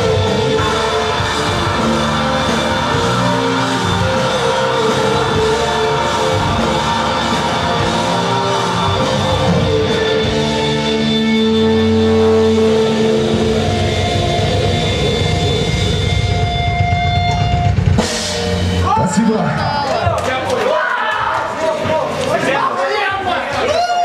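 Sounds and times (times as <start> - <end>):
metal band playing live: 0.0 - 20.2.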